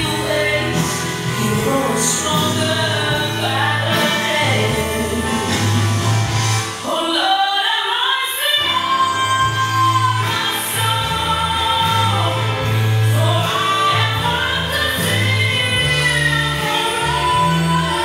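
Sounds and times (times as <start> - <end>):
held bass notes: 0.0 - 6.8, 8.7 - 18.0
sung melody: 0.0 - 7.4, 8.6 - 18.0.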